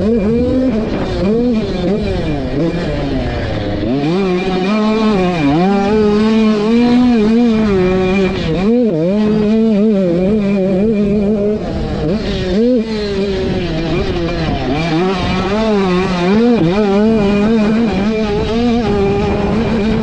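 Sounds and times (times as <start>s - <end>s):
dirt bike engine revving high: 0.0s - 20.0s.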